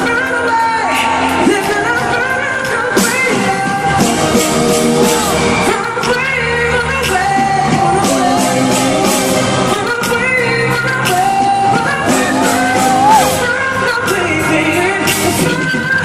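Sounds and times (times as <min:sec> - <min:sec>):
live pop ballad with band: 0:00.0 - 0:16.0
person singing: 0:00.0 - 0:16.0.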